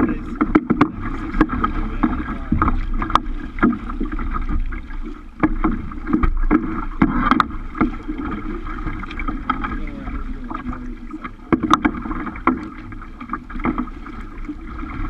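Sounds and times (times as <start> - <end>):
water splashing against kayak hull: 0.0 - 15.0
waves slapping hull: 0.0 - 15.0.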